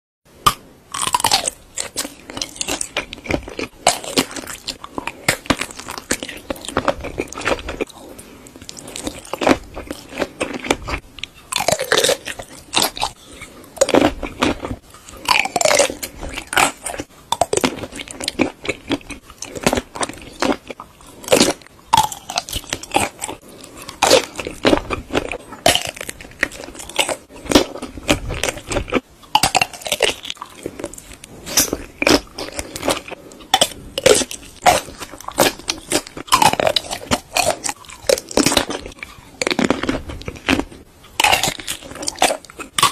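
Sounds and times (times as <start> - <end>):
crunchy bites and chewing: 0.4 - 42.9.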